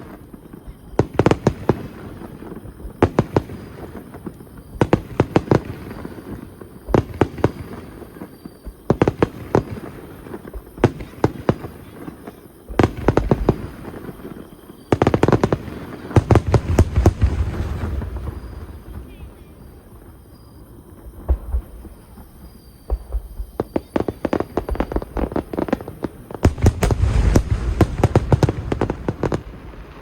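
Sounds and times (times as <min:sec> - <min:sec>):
fireworks bangs and cracks: 0:00.0 - 0:30.0.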